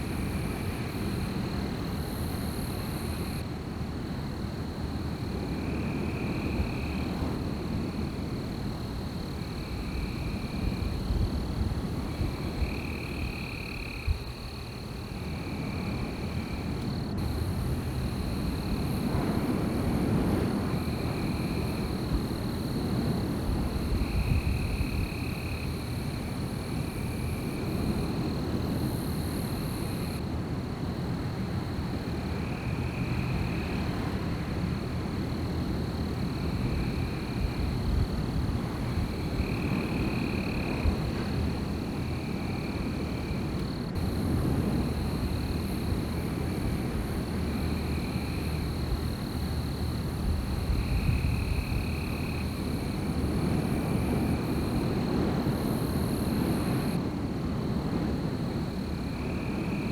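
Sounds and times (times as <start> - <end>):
low rumble of wind: 0.0 - 59.9.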